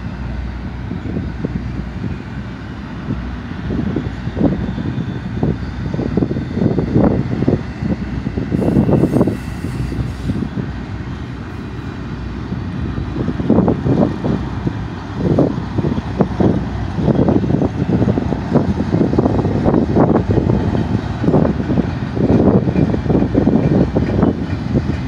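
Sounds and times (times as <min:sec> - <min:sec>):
steel wheels rumbling on rail: 0:00.0 - 0:25.0.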